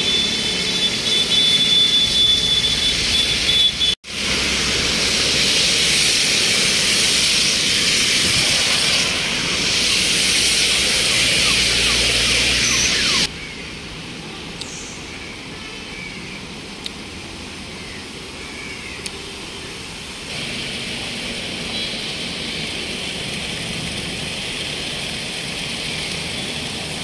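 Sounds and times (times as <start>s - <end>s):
traffic: 0.0s - 27.0s
water rushing over road: 4.1s - 27.0s.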